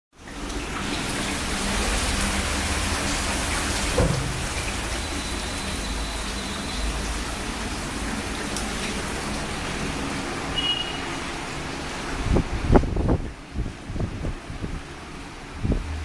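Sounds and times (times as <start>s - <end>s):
rushing water from heavy rain: 0.1s - 16.0s.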